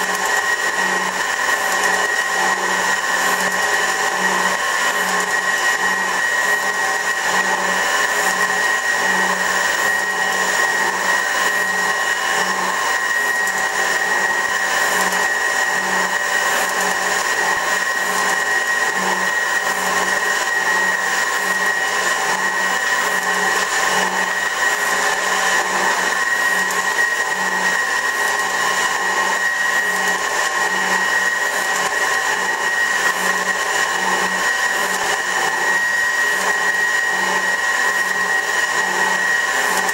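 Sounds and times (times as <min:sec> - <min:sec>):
metal shaper whining: 0:00.0 - 0:39.9.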